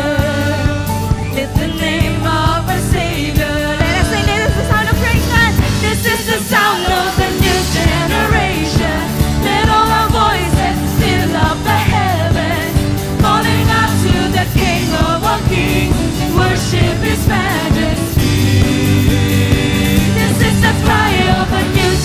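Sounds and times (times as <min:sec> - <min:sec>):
worship band music: 0:00.0 - 0:22.0.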